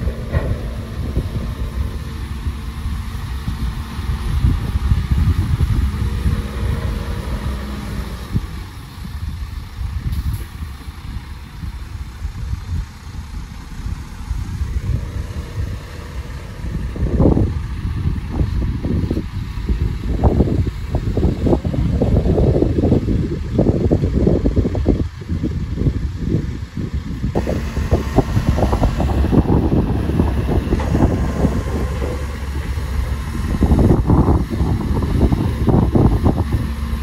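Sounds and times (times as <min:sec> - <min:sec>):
diesel engine rumbling: 0:00.0 - 0:37.0.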